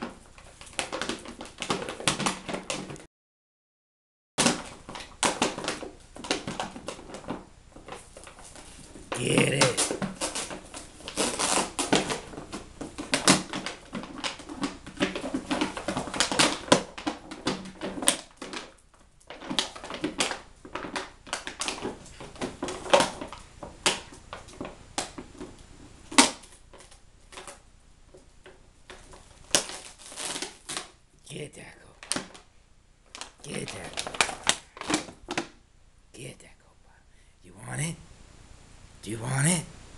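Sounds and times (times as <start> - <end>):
dog chewing plastic bottle: 0.0 - 3.0, 4.4 - 31.0, 32.0 - 35.6.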